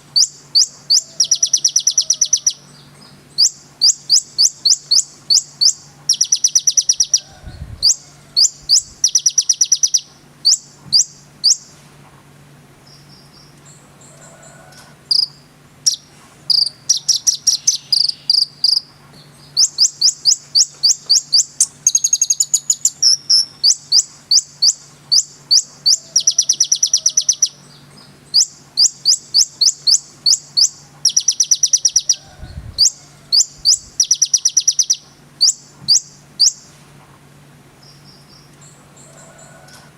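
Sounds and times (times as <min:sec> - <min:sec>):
faint low hum: 0:00.0 - 0:39.9
soft bird twittering: 0:00.1 - 0:11.8, 0:12.8 - 0:36.8
bird chirping sharply: 0:00.2 - 0:11.7, 0:15.1 - 0:32.2, 0:32.8 - 0:36.7.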